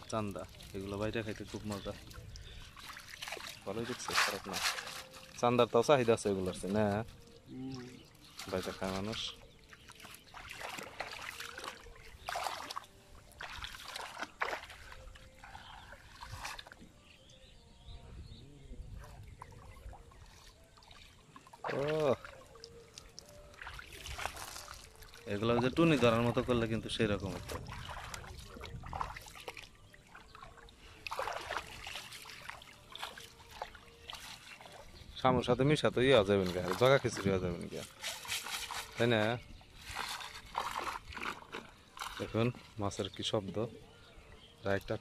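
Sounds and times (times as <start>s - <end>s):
shallow water splashing: 0.0s - 17.2s, 19.0s - 45.0s.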